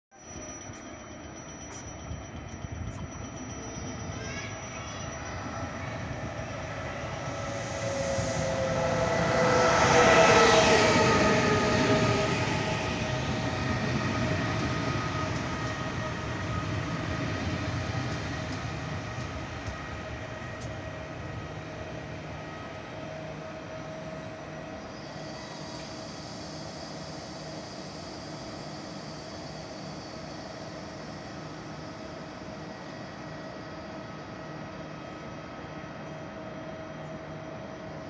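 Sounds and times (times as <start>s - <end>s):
train whine and rumble: 0.1s - 38.0s
electric train passing: 0.2s - 38.0s.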